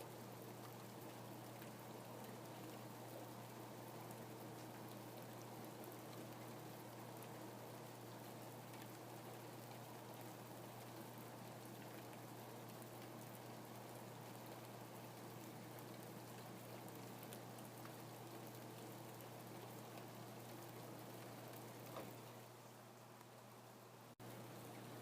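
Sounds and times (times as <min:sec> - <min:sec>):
faint steady rainfall: 0:00.0 - 0:25.0.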